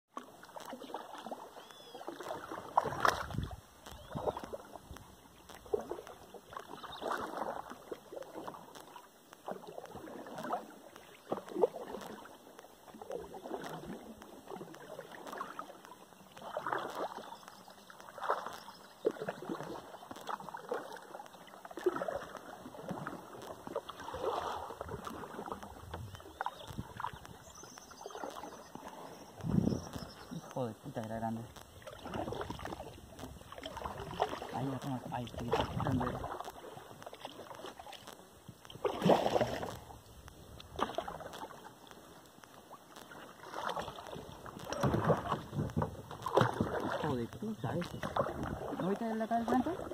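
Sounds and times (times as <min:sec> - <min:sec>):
kayak paddle strokes in water: 0:00.1 - 0:49.9.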